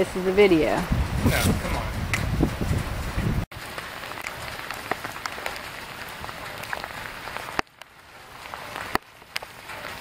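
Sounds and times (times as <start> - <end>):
rain falling on water and wood: 0.0 - 10.0.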